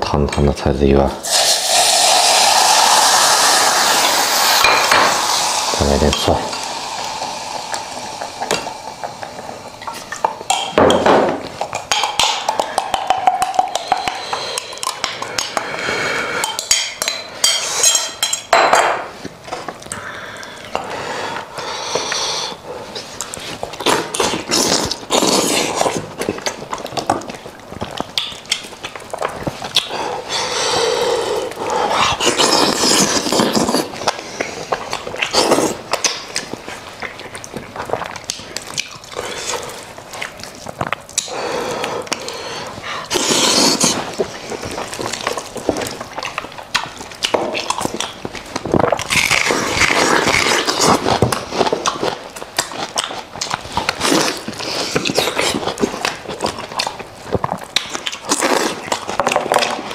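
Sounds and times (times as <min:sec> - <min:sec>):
eating with smacks and clicks: 0:01.3 - 0:59.9.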